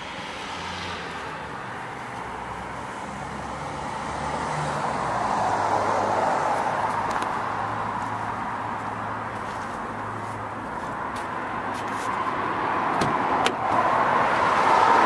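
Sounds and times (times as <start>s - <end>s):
road traffic noise: 0.0s - 15.0s
vehicle passing: 0.0s - 15.0s.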